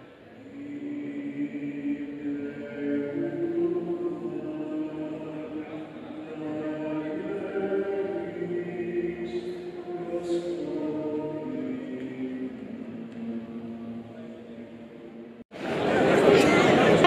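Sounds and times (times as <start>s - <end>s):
choir singing long notes: 0.0s - 16.1s.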